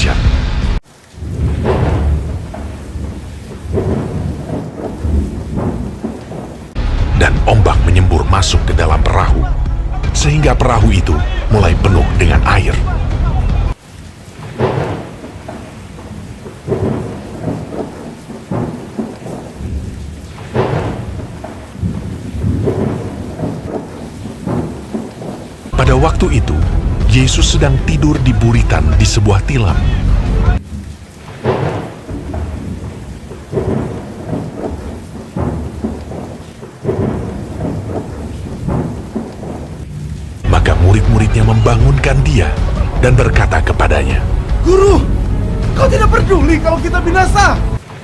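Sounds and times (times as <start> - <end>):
rolling thunder: 0.0 - 48.0
steady rain: 0.0 - 48.0.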